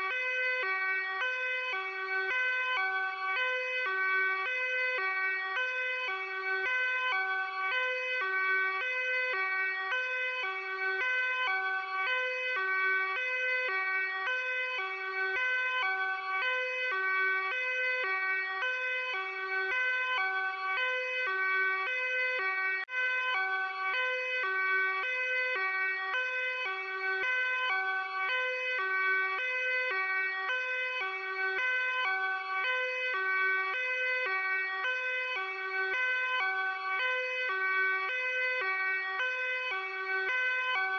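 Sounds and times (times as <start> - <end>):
police car two-tone siren: 0.0 - 40.9.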